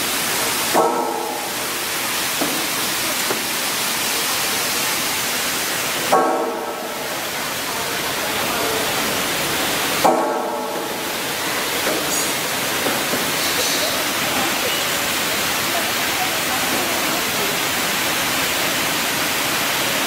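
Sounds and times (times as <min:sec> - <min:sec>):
spray water hissing: 0:00.0 - 0:20.0.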